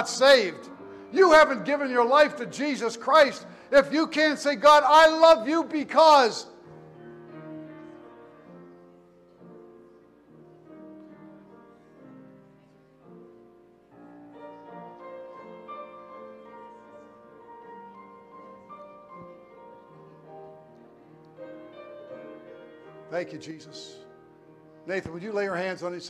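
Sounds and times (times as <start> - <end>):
soft keyboard music: 0.0 - 26.0.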